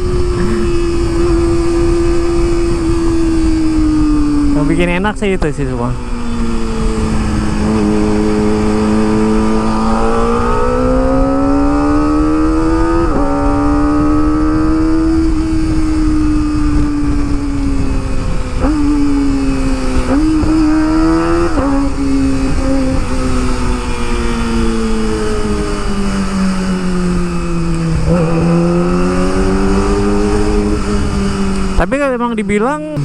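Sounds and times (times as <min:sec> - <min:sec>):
motorcycle engine revving: 0:00.0 - 0:05.0, 0:05.7 - 0:33.0.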